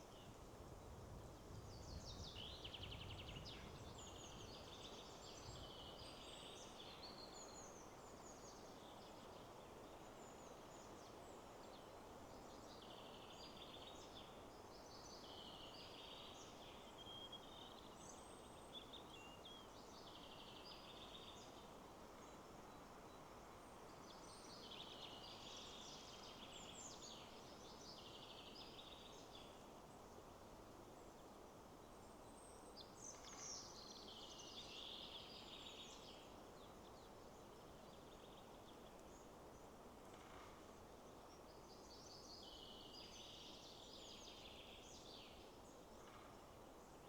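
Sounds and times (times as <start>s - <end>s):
songbirds chirping: 0.0s - 47.0s
wind in trees: 0.0s - 47.0s.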